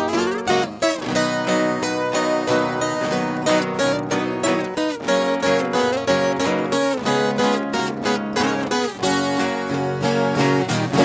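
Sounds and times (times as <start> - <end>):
plucked strings and acoustic guitar: 0.0 - 11.0.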